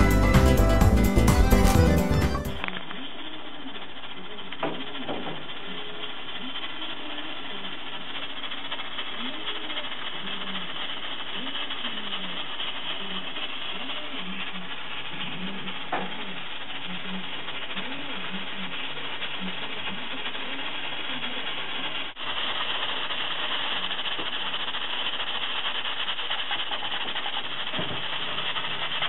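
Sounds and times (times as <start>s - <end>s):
steam hissing from pressure cooker: 0.0s - 29.0s.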